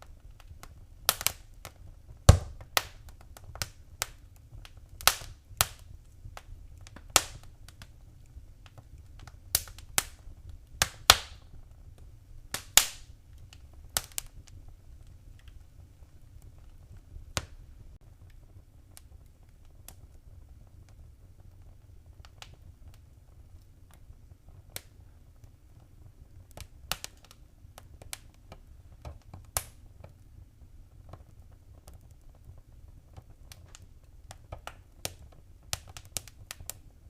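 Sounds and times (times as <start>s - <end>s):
faint low rumble: 0.0s - 37.0s
wood fire crackling and popping: 0.0s - 37.0s.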